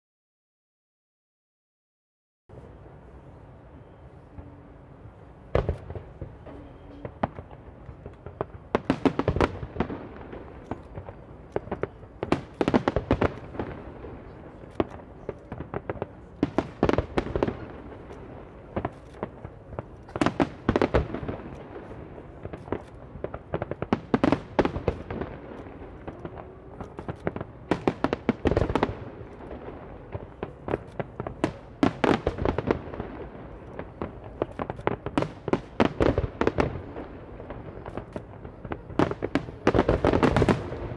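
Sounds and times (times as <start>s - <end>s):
fireworks bangs and crackle: 5.5s - 40.9s.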